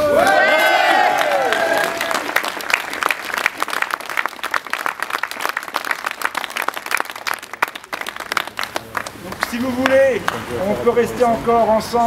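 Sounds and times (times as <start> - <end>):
crowd applauding: 0.1 - 10.6.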